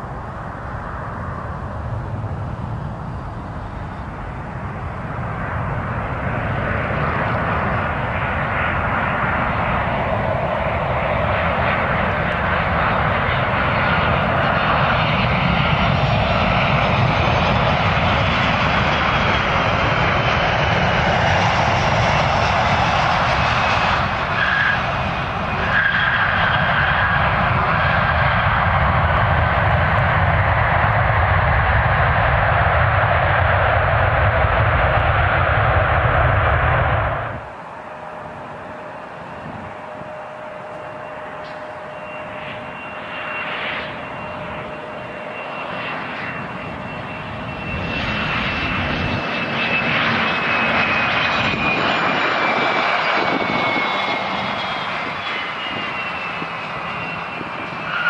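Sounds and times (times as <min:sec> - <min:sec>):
jet engines rumble and whine: 0:00.0 - 0:58.0.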